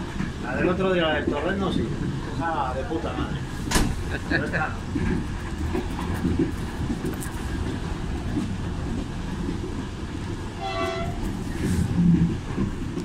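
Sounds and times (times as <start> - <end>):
train rumbling and rattling: 0.0 - 13.0.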